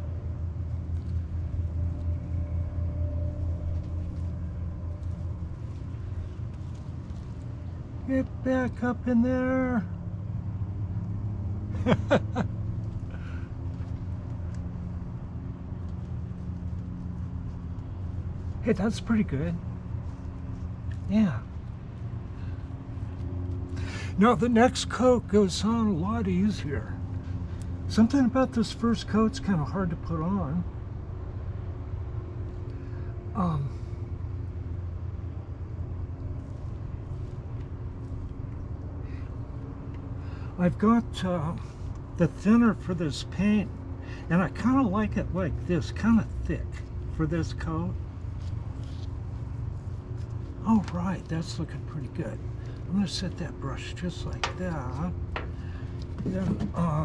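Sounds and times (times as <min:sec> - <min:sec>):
low background rumble: 0:00.0 - 0:57.0
low mechanical hum: 0:00.0 - 0:57.0.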